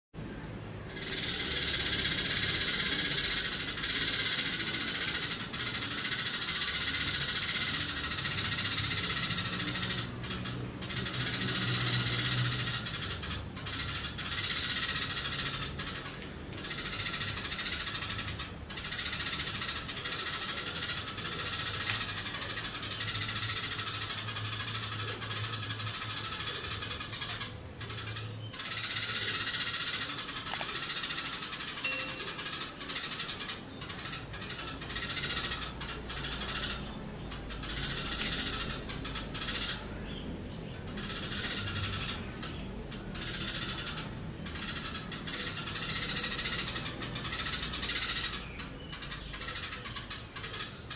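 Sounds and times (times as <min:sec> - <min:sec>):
sparrow chirping: 0:00.9 - 0:50.9.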